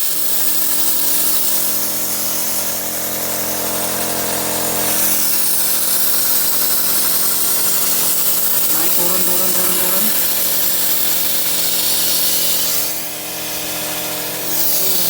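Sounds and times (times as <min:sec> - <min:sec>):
plasma cutter hissing: 0:00.0 - 0:15.0
machine hum: 0:00.1 - 0:15.0.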